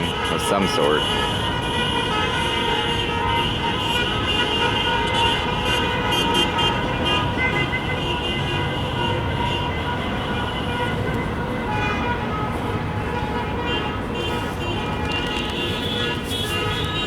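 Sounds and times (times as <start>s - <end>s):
car horns honking: 0.0s - 17.0s
traffic noise: 0.0s - 17.0s.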